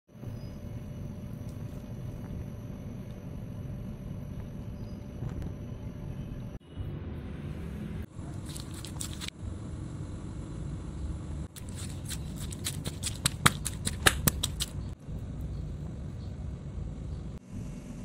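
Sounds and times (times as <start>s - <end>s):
low steady hum: 0.1s - 18.0s.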